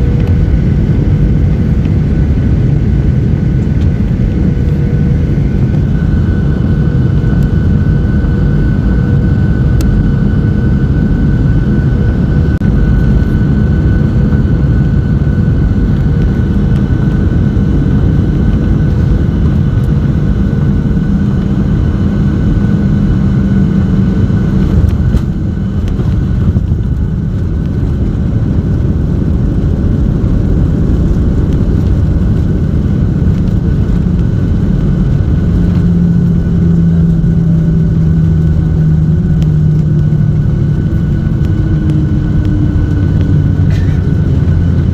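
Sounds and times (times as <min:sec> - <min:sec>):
jet engine rumble in cabin: 0:00.0 - 0:44.9
steady whine: 0:00.0 - 0:44.9.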